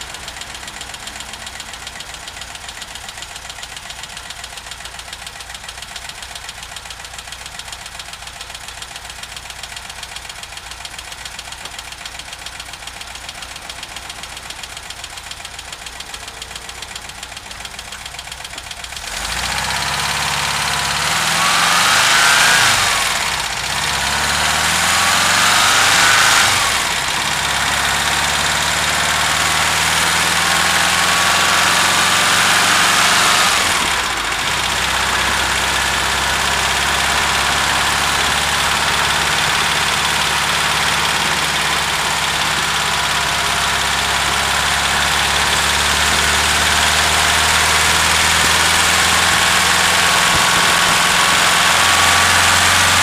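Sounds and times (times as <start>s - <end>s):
van engine revving and idling: 0.0s - 53.0s.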